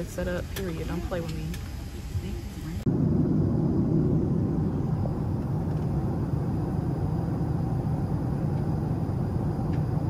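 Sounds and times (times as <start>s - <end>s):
jet airliner cabin noise: 0.0s - 10.0s.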